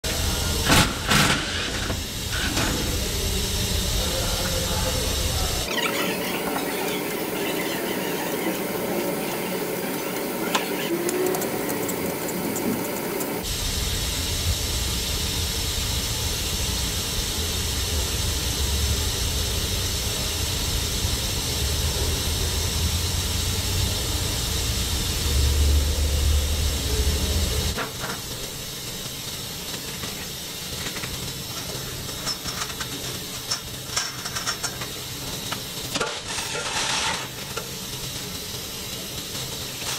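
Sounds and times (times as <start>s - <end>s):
machine shop hiss and hum: 0.0s - 39.9s.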